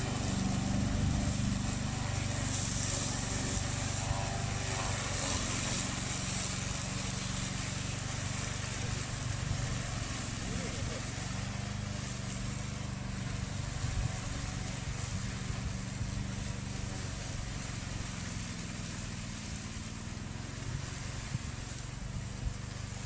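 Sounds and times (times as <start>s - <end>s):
mower engine droning: 0.0s - 23.0s.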